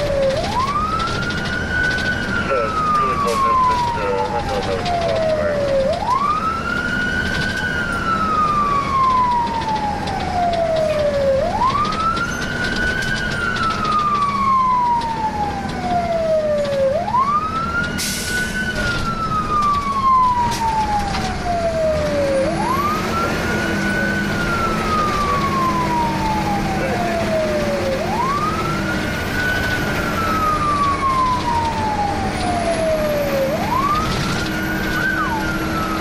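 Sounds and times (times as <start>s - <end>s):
fire engine siren wailing: 0.0s - 36.0s
truck engine drone: 0.0s - 36.0s.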